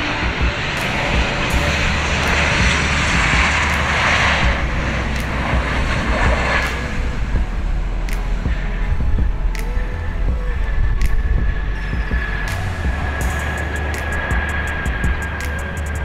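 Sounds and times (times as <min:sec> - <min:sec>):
jet engine roar: 0:00.0 - 0:16.0
low rumble: 0:00.0 - 0:16.0.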